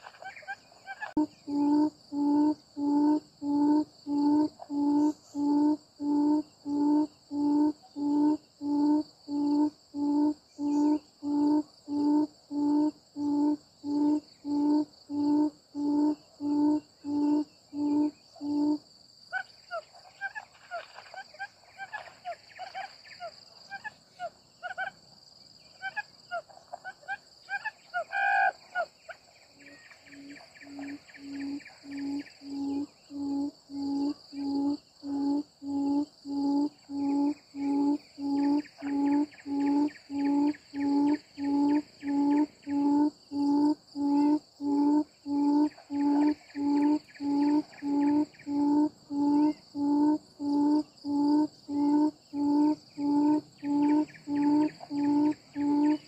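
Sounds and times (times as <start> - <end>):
quail low hooting call: 0.0 - 24.9, 25.8 - 28.9, 29.6 - 56.0
high insect drone: 0.0 - 56.0.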